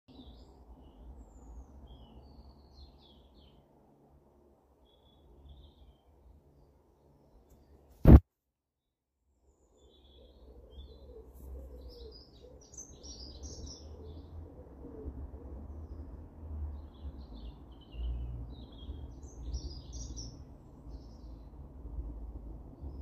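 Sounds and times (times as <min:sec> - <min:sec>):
small birds singing and chirping: 0:00.1 - 0:07.8, 0:09.3 - 0:23.0.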